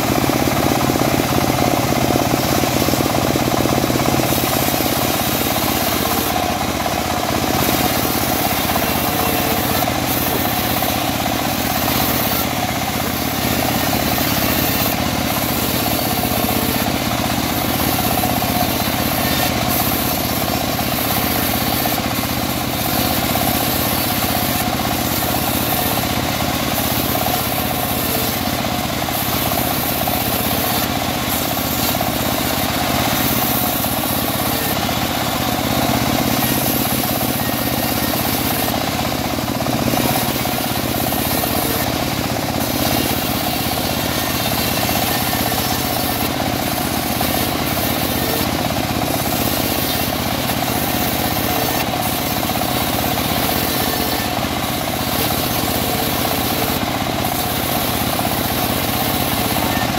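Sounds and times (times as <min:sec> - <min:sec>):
bandsaw mill sawing wood: 0:00.0 - 0:59.9.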